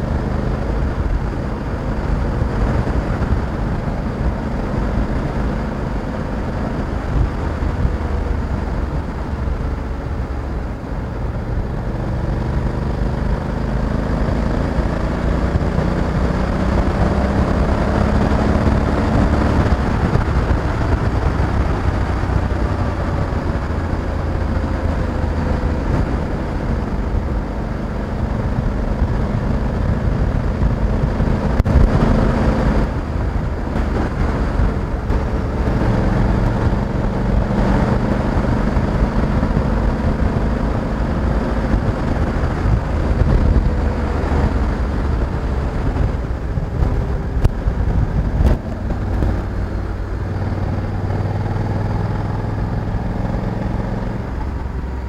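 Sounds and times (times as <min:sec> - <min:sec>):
motorcycle engine running: 0:00.0 - 0:55.0
wind and road rush: 0:00.0 - 0:55.0.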